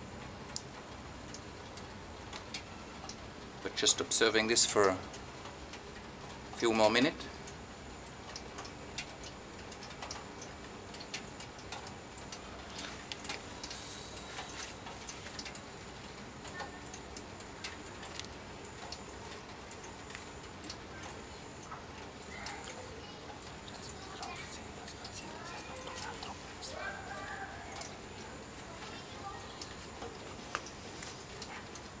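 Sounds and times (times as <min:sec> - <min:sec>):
water dripping onto metal tray: 0:00.2 - 0:32.0.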